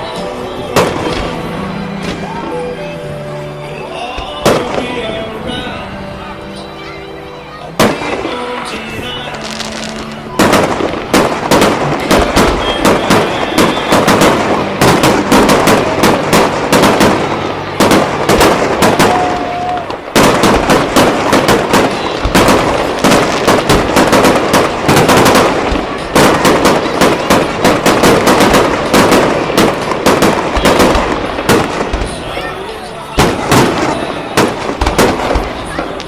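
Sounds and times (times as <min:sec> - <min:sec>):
fireworks bangs and cracks: 0:00.0 - 0:03.2, 0:04.1 - 0:06.6, 0:07.6 - 0:36.0.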